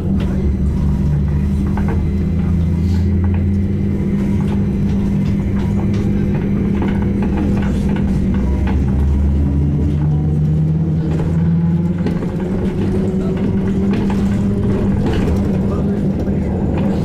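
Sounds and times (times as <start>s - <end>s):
body rattles and knocks: 0.0s - 17.0s
trolleybus electrical hum: 0.0s - 17.0s.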